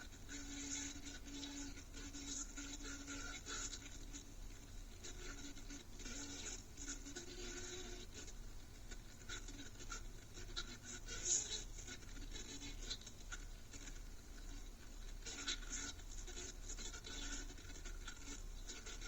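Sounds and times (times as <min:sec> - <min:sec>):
faint scratching and rustling: 0:00.0 - 0:19.0.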